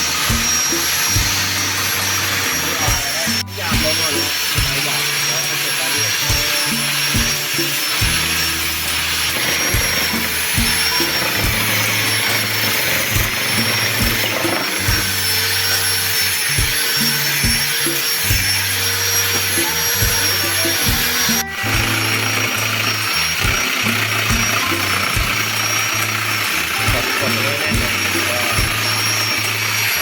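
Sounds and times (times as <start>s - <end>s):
angle grinder grinding wood: 0.0s - 30.0s.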